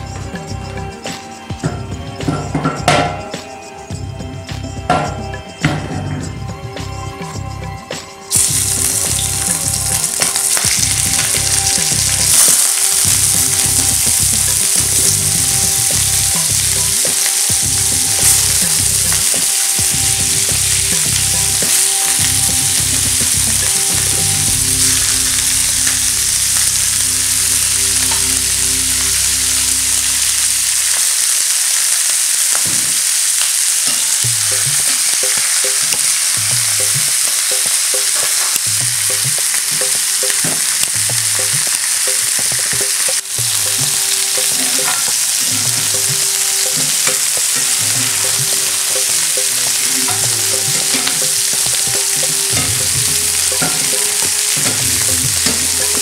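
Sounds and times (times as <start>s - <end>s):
chicken sizzling in hot oil: 0.0s - 4.0s, 8.0s - 56.0s.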